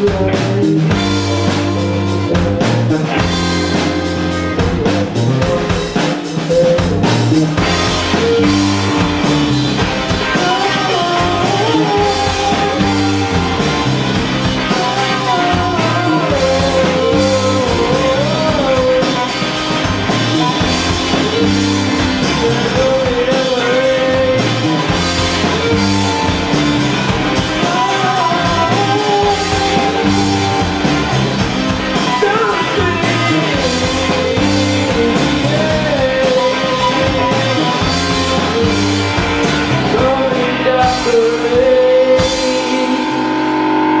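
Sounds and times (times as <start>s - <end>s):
bass guitar: 0.0s - 44.0s
drum kit: 0.0s - 44.0s
electric guitar: 0.0s - 44.0s
person singing: 0.0s - 44.0s.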